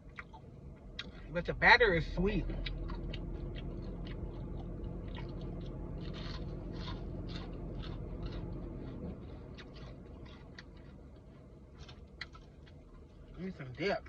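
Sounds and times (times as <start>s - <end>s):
chewing crunchy fried food: 0.0s - 1.3s, 2.4s - 13.8s.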